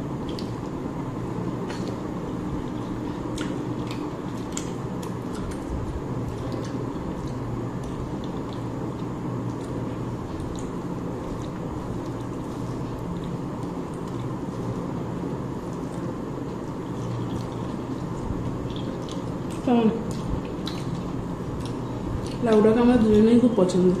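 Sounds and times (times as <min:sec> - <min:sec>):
steady low hum: 0:00.0 - 0:24.0
wet chewing: 0:00.2 - 0:00.8, 0:01.4 - 0:23.2.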